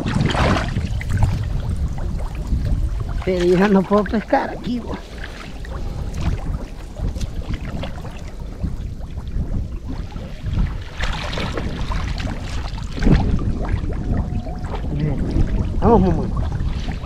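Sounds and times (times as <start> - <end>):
water sloshing and splashing: 0.0 - 17.0
wind on microphone: 0.0 - 17.0.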